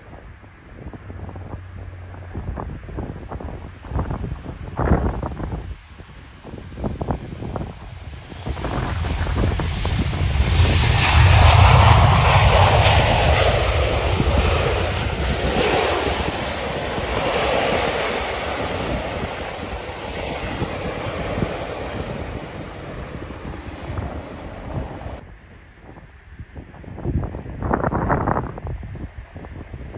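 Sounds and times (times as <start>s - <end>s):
jet engines roaring: 0.2s - 25.2s.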